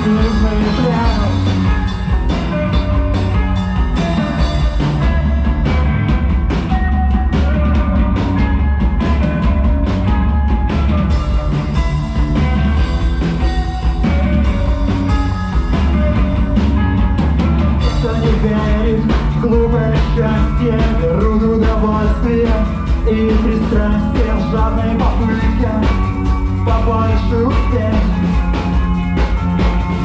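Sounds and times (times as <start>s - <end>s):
drum kit beat: 0.0s - 30.0s
rock band playing live: 0.0s - 30.0s.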